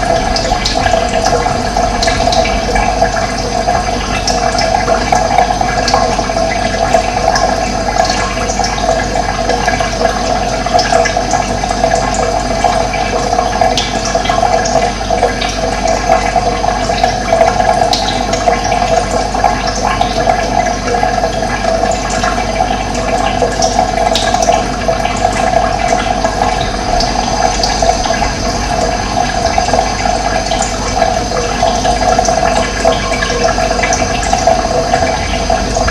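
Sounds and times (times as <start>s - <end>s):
running water rushing: 0.0s - 35.9s.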